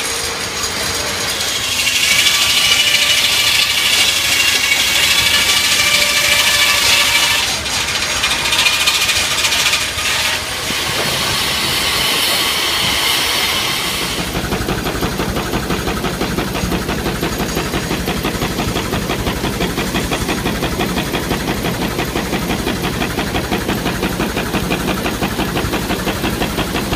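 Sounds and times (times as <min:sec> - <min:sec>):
steam hissing: 0:00.0 - 0:26.9
steam engine rhythmic beat: 0:00.3 - 0:26.9.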